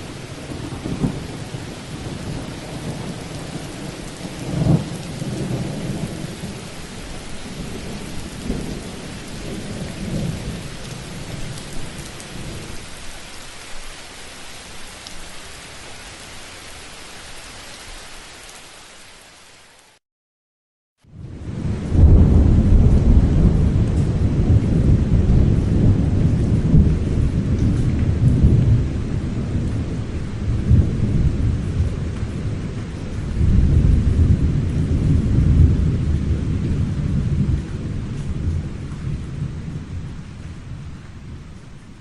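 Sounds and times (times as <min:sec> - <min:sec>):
thunder rumbling: 0:00.0 - 0:12.8, 0:21.1 - 0:42.0
steady rain: 0:00.0 - 0:20.0, 0:21.0 - 0:42.0.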